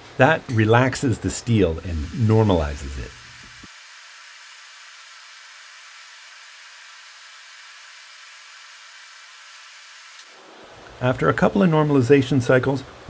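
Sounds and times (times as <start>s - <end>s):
gas forge burning with hiss: 0.0s - 11.2s.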